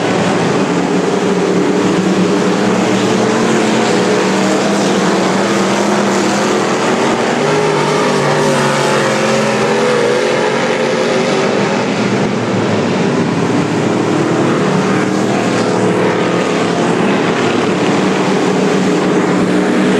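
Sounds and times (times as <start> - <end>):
race car engines running: 0.0 - 19.9.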